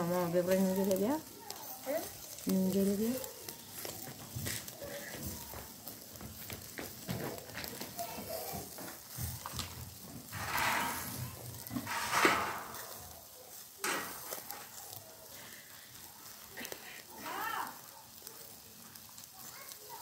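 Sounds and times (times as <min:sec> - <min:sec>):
skewers sizzling over charcoal: 0:00.0 - 0:20.0.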